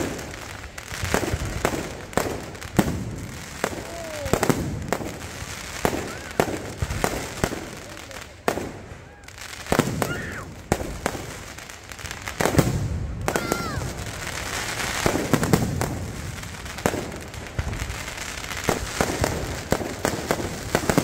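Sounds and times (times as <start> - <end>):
crackle of burning stars: 0.0 - 21.0
fireworks bangs: 0.0 - 21.0.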